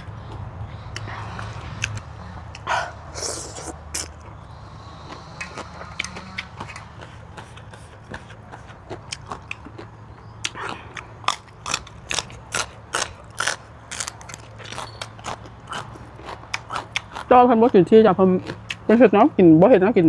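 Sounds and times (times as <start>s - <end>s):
wet chewing mouth sounds: 0.0s - 4.4s, 5.0s - 17.3s, 18.4s - 18.9s.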